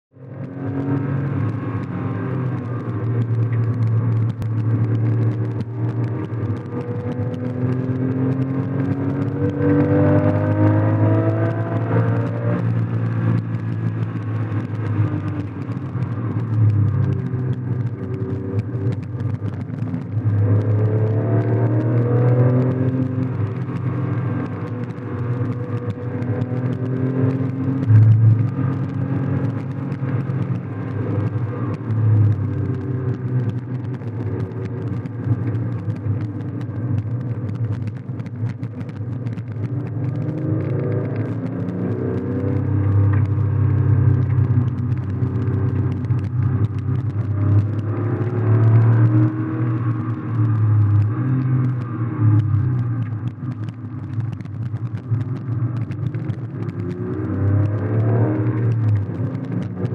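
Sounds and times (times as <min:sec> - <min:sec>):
car engine accelerating: 0:00.2 - 0:59.9.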